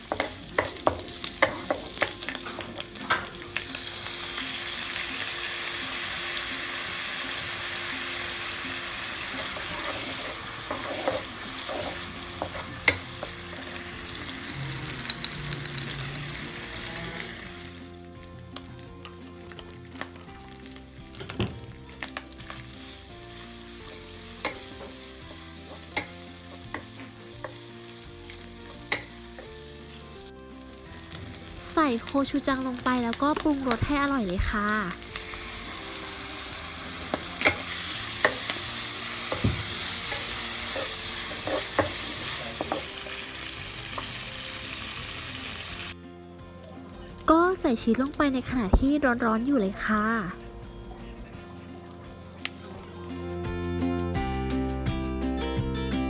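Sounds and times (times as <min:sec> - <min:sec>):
food sizzling in a wok: 0:00.0 - 0:53.5.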